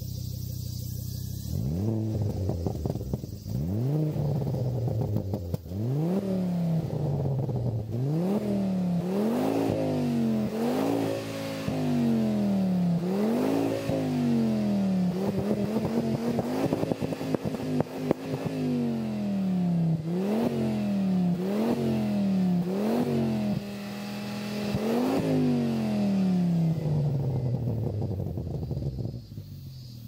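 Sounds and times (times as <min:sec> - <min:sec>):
car engine revving: 0:00.0 - 0:30.0
exhaust crackling: 0:00.0 - 0:30.0.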